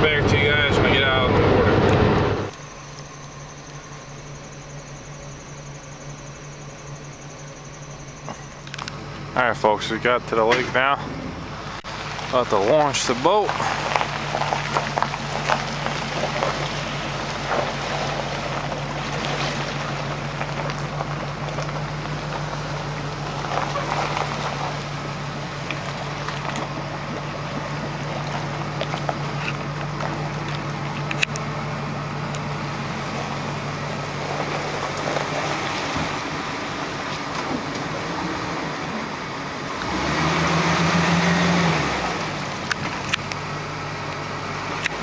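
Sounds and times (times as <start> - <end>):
truck engine idling: 0.0 - 45.0.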